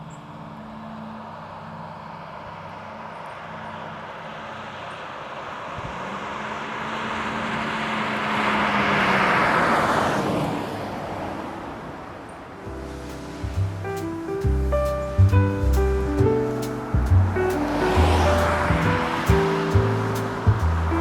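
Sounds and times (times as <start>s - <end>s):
car passing by: 3.3s - 21.0s.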